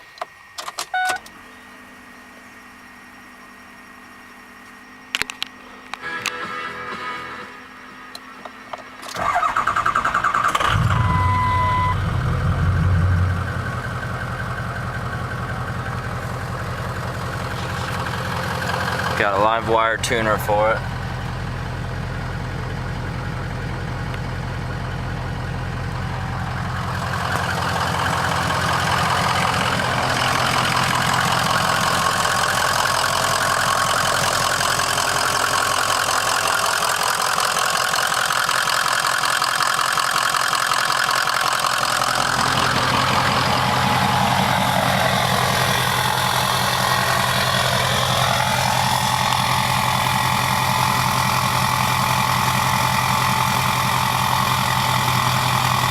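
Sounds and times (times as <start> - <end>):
diesel engine idling: 9.1 - 55.9.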